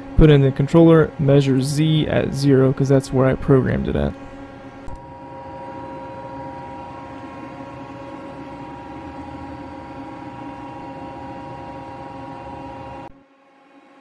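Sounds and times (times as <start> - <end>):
lathe machine hum: 0.0 - 13.1.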